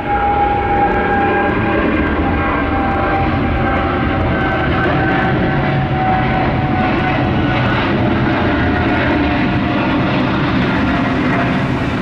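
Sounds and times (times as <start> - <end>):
faint steady engine whine: 0.0 - 12.0
jet engines roaring: 0.0 - 12.0.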